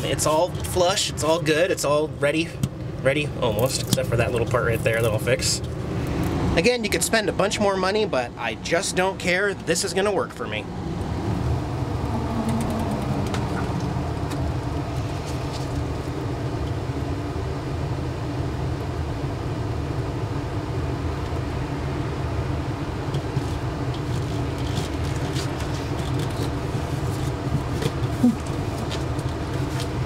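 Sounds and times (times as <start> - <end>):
motor rumbling: 0.0 - 30.0.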